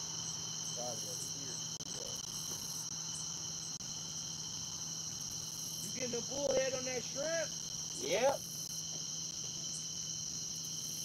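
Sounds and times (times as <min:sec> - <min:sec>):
crickets and night insects trilling: 0:00.0 - 0:11.0.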